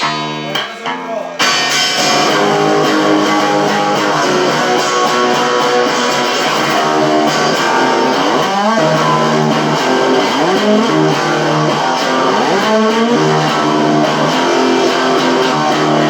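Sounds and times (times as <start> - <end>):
distorted electric guitar riff: 0.0 - 16.0.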